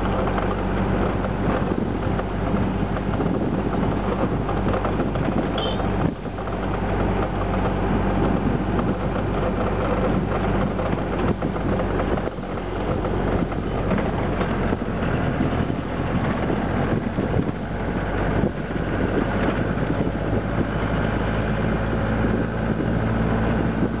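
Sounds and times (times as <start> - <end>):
road noise: 0.0 - 24.0
truck engine running: 0.0 - 24.0.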